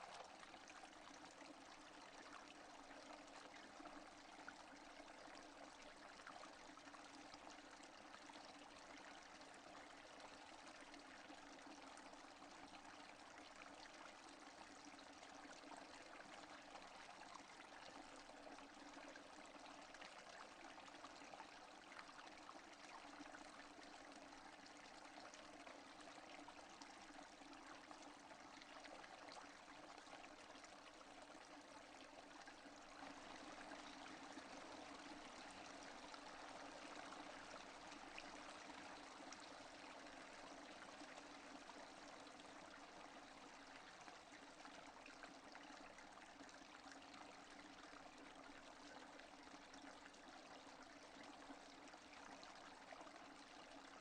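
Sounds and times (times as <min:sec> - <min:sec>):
faint rain patter: 0:00.0 - 0:45.8.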